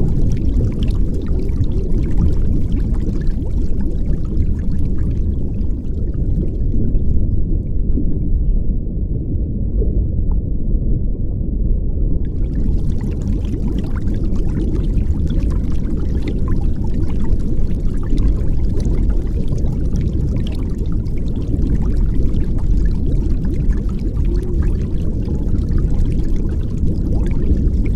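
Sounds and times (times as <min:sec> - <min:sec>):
muffled underwater rumble: 0:00.0 - 0:27.9.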